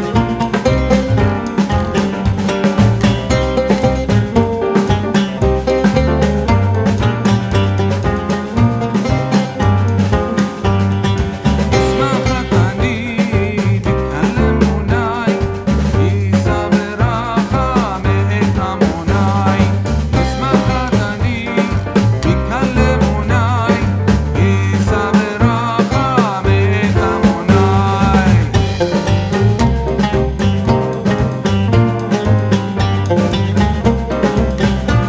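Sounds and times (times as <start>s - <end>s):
song with bass drums and guitar: 0.0s - 35.0s.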